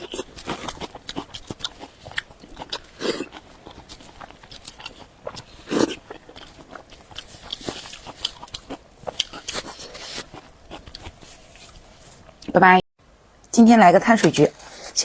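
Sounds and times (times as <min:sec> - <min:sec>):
person biting and chewing meat: 0:00.0 - 0:12.5.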